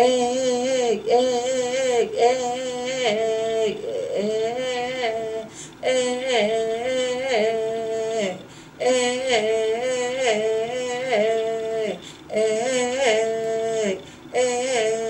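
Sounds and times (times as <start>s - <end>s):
woman singing a chant: 0.0s - 15.0s.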